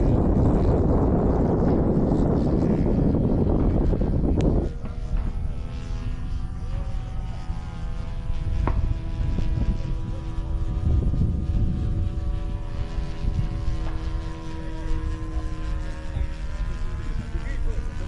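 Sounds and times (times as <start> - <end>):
model airplane engine droning: 0.0 - 18.0
wind on microphone: 0.0 - 18.0.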